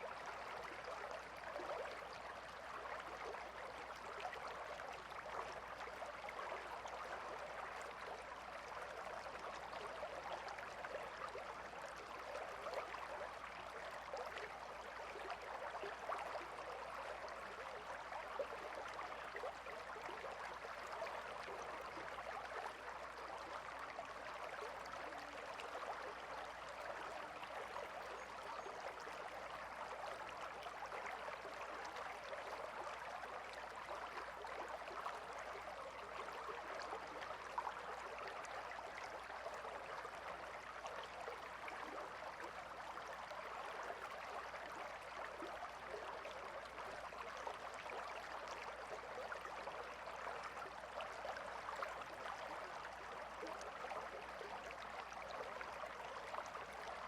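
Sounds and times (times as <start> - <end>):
shallow river flowing: 0.2 - 57.0.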